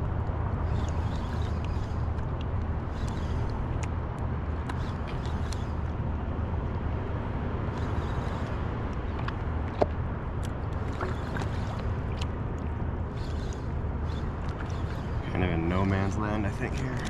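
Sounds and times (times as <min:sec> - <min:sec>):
wind and sea water rumble: 0:00.0 - 0:17.0.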